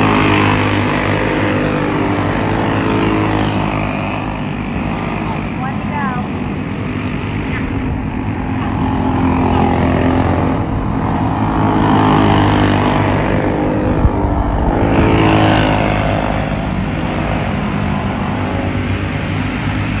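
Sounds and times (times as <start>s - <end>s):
kart engines buzzing and revving: 0.0s - 20.0s.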